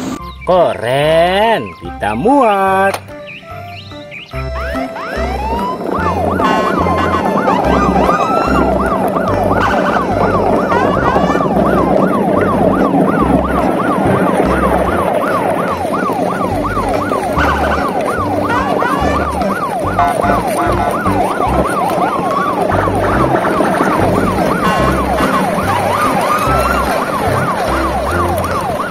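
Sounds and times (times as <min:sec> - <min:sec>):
electronic siren wails: 0:04.3 - 0:28.9.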